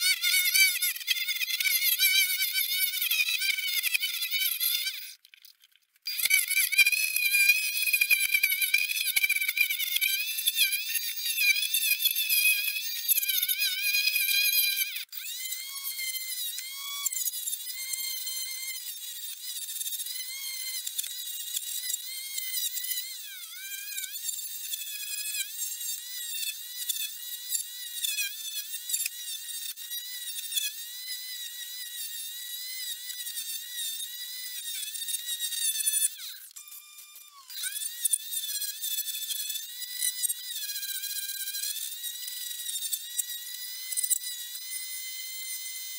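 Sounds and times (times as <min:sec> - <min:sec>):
chisel cutting spinning wood: 0:00.0 - 0:05.3, 0:06.1 - 0:45.9
wood lathe motor whine: 0:06.1 - 0:45.9.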